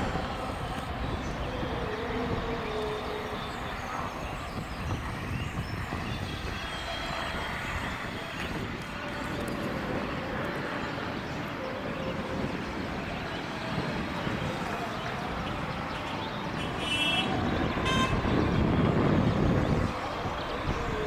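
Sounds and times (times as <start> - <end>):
distant traffic hum: 0.0 - 21.0.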